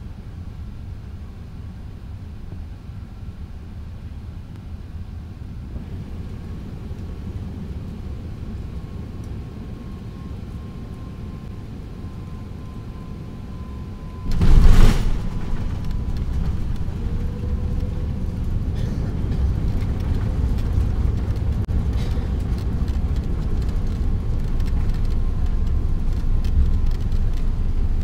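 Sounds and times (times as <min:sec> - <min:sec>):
aircraft cabin rumble: 0:00.0 - 0:28.0
faint engine whine: 0:00.0 - 0:28.0.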